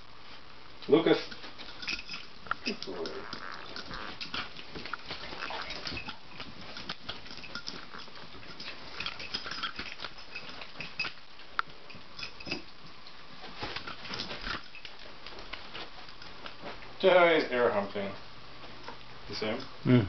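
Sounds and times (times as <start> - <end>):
dog paws scuffling on carpet: 1.2 - 19.0.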